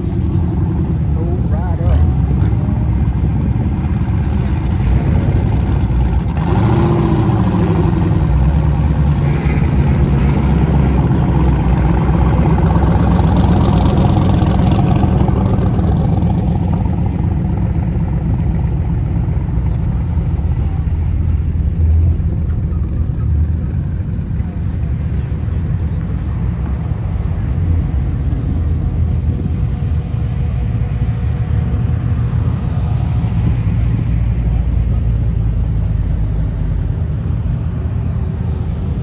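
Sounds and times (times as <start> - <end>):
car engines rumbling past: 0.0 - 39.0.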